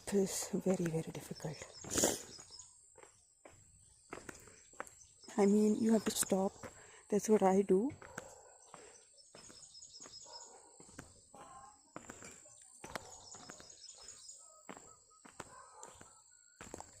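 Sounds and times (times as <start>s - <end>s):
birds chirping softly: 0.0s - 17.0s
faint footsteps on a path: 0.0s - 17.0s.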